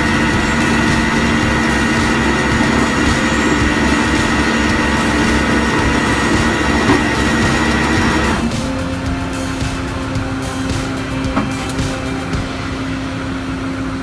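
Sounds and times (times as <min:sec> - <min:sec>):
truck engine drone: 0:00.0 - 0:14.0
winch high whine: 0:00.0 - 0:14.0.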